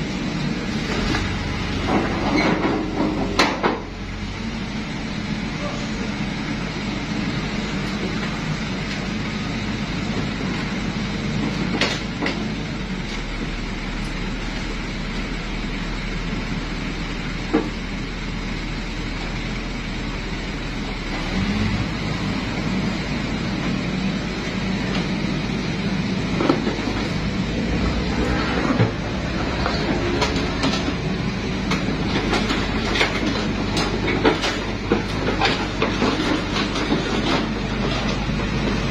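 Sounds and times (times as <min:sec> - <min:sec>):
excavator diesel drone: 0:00.0 - 0:38.9.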